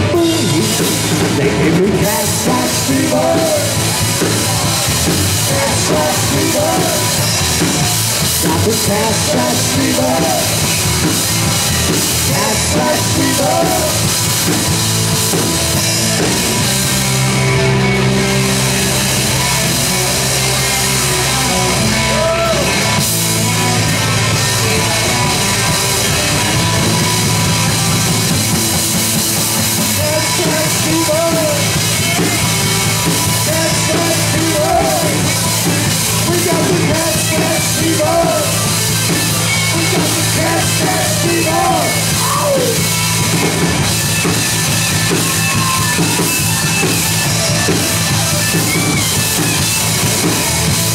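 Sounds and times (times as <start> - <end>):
electric lead guitar bent notes: 0.0 - 50.9
rock band playing: 0.0 - 50.9.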